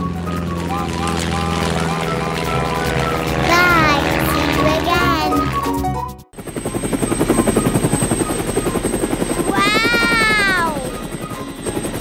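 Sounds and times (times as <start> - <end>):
cartoon helicopter rotor chop: 0.0 - 12.0.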